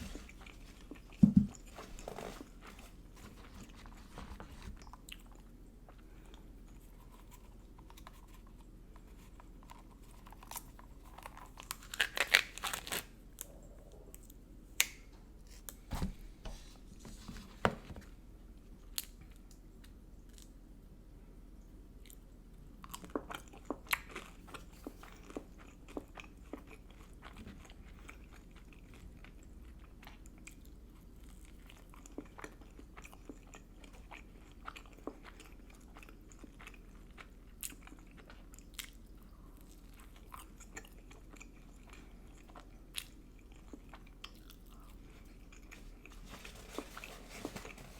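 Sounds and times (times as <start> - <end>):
person chewing crunchy food: 0.0 - 14.4, 22.8 - 47.9.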